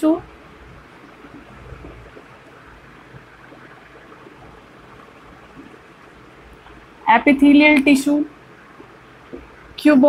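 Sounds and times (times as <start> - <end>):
room and microphone hiss: 0.0 - 10.0.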